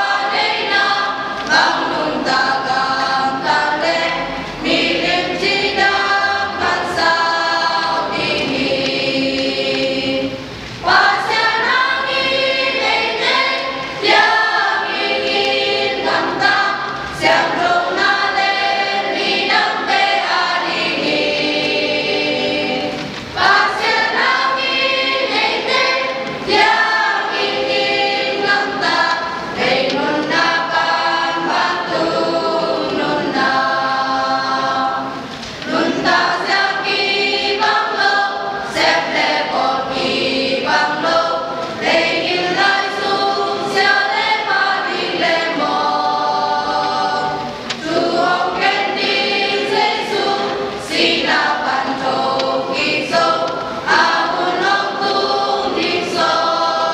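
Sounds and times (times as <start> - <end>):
choir singing unaccompanied: 0.0 - 56.9.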